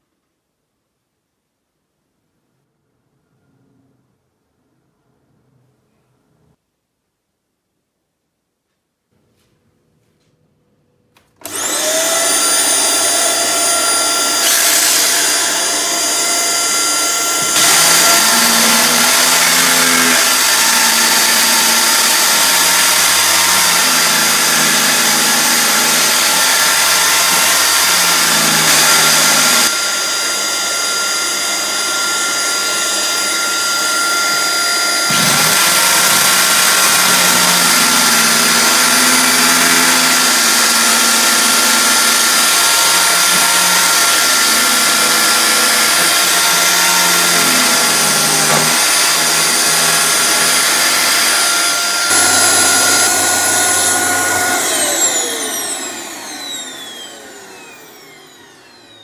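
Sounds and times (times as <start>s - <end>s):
angle grinder cutting a wall: 11.4s - 59.0s
vacuum cleaner running: 11.4s - 59.0s.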